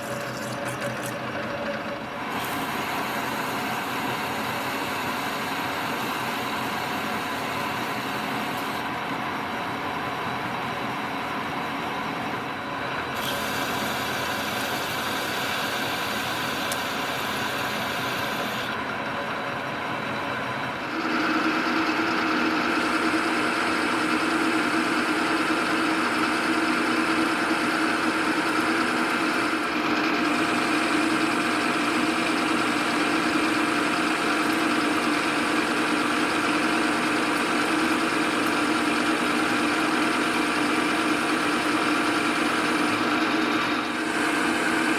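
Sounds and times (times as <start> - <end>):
metal lathe humming: 0.0 - 44.9.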